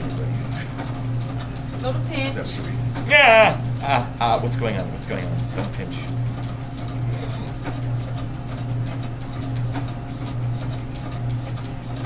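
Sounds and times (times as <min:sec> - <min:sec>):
small machine humming: 0:00.0 - 0:12.0.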